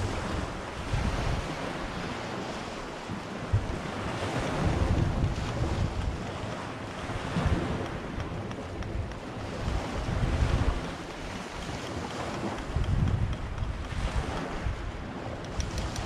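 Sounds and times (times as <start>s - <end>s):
sea waves washing on beach: 0.0s - 16.0s
wind buffeting microphone: 0.0s - 16.0s.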